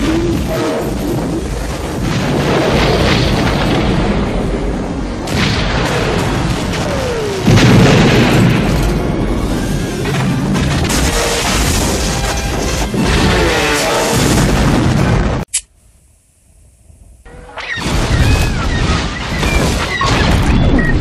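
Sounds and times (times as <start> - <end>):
explosions and booms: 0.0 - 15.5, 17.6 - 21.0.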